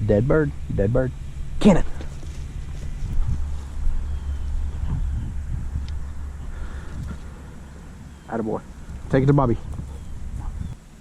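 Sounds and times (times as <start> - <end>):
wind buffeting microphone: 0.0 - 10.8
faint rustles: 1.1 - 11.0.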